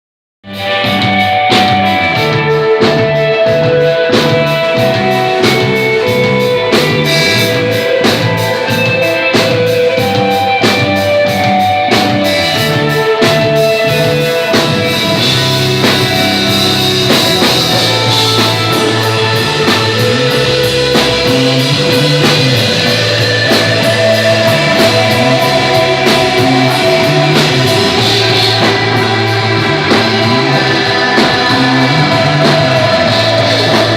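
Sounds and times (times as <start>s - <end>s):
bass guitar: 0.4s - 33.9s
drum kit beat: 0.5s - 33.9s
electric guitar lines: 0.5s - 33.9s.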